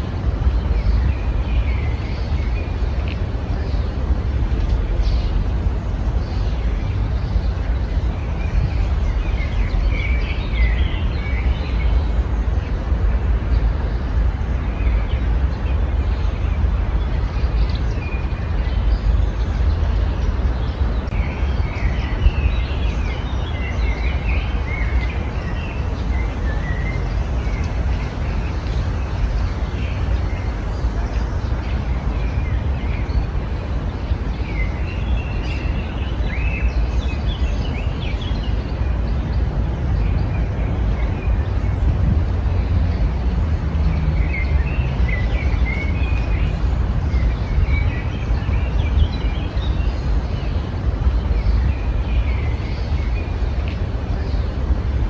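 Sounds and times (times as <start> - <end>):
small birds chirping: 0.0 - 55.0
steady low rumble: 0.0 - 55.0.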